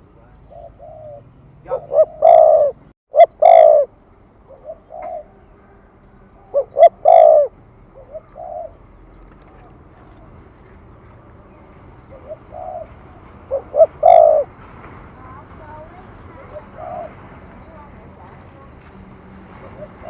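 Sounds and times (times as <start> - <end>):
dove cooing: 0.4 - 9.0, 11.5 - 18.8, 19.5 - 20.0.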